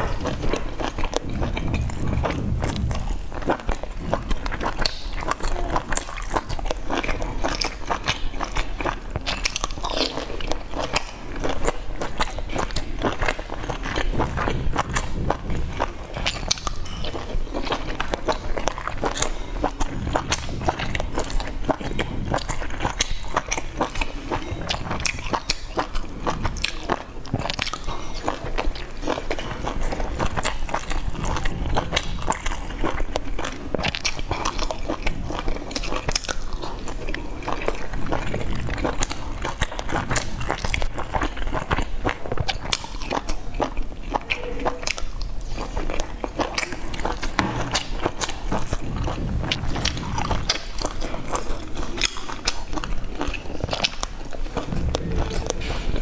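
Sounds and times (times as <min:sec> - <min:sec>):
chewing soft dumplings: 0:00.0 - 0:56.0.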